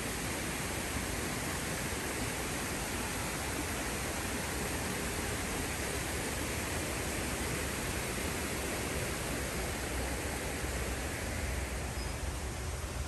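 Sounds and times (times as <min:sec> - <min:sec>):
stream rushing water: 0:00.0 - 0:13.0.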